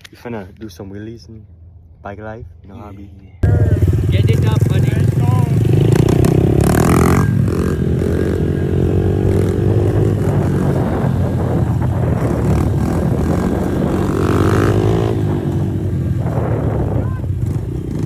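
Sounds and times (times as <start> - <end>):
pit bike engine revving: 3.4 - 18.0.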